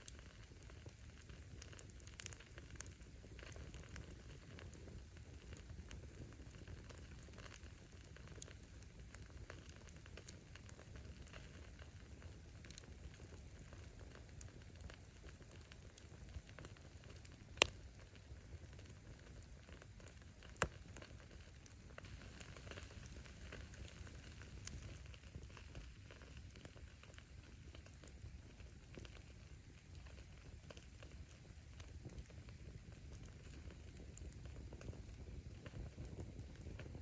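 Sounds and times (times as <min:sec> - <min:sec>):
burning logs popping: 0:00.0 - 0:37.0
firewood crackling: 0:00.0 - 0:37.0
rush of bonfire flames: 0:00.0 - 0:37.0.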